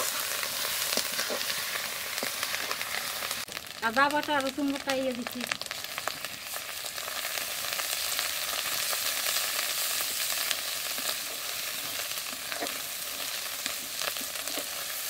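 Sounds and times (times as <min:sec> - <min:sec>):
paste sizzling in hot oil: 0:00.0 - 0:15.0.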